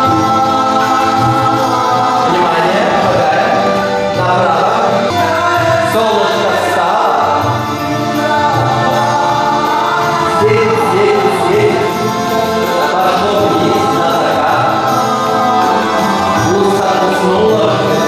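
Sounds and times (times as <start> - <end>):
choral singing: 0.0 - 18.0.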